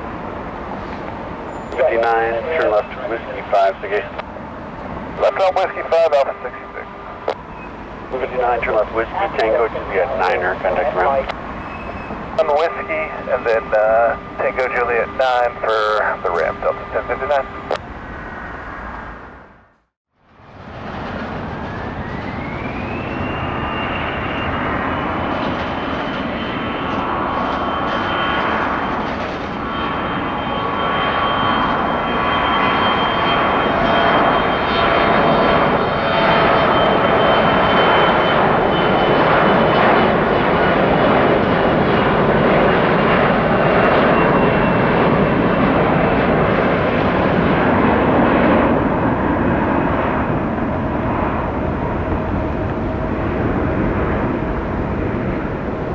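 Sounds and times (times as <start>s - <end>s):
jet engines whining and roaring: 0.0s - 55.9s.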